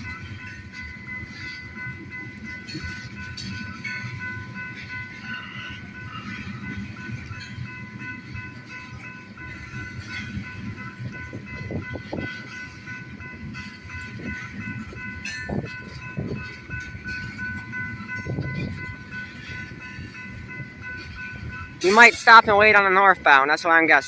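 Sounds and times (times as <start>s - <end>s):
train cars rumbling and clattering: 0.0s - 24.0s.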